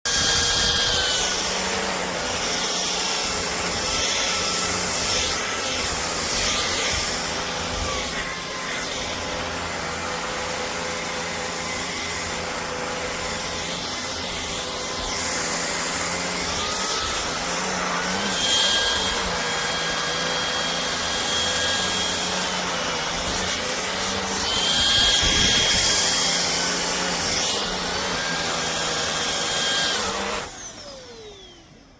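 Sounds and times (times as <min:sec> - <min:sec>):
vacuum cleaner motor whine: 0:00.1 - 0:31.9.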